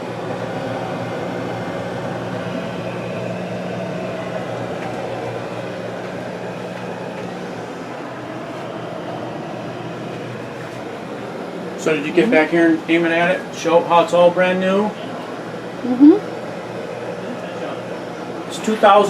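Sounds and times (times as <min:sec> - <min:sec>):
refrigerator compressor humming: 0:00.0 - 0:19.0.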